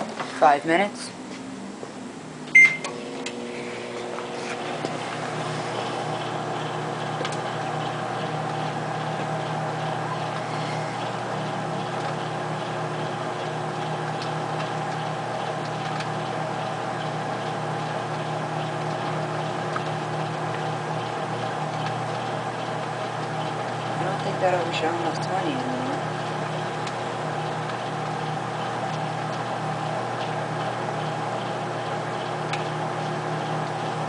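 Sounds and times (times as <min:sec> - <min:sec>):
microwave oven hum: 0:00.0 - 0:34.0.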